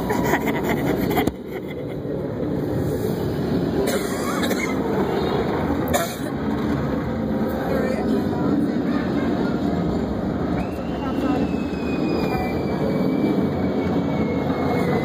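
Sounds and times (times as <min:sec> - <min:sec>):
car wash machinery running: 0:00.0 - 0:15.0.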